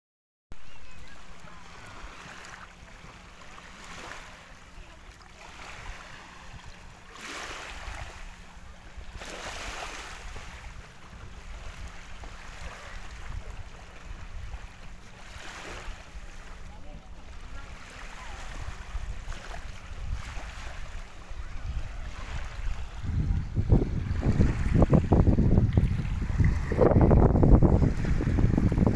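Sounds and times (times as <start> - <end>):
low steady rumble: 0.6 - 28.9
small waves washing onto sand: 0.6 - 28.9.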